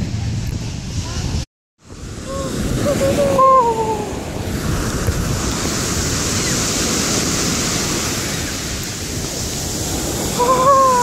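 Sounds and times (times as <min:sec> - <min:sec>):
ocean surf washing over sand: 0:00.0 - 0:11.0.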